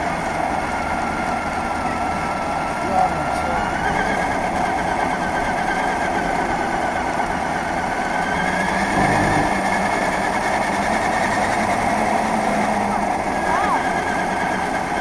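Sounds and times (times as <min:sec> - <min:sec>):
rc car motor whine: 0:00.0 - 0:15.0.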